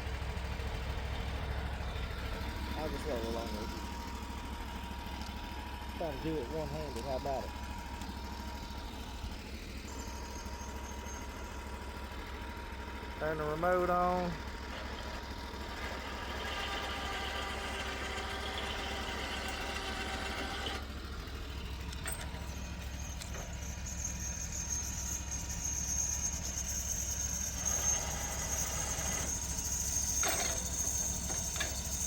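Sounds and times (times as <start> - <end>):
electric winch whining: 0.0 - 32.0
low engine hum: 0.0 - 32.0.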